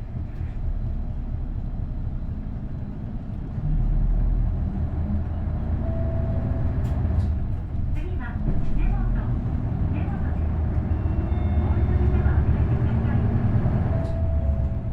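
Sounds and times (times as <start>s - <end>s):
bus diesel engine rumbling: 0.0s - 14.9s.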